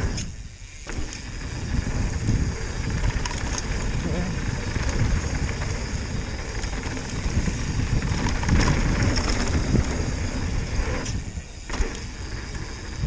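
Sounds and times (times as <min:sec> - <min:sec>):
bike tyre roar on dirt: 0:00.0 - 0:13.0
wind rushing over microphone: 0:00.0 - 0:13.0
bike frame rattle: 0:00.9 - 0:13.0.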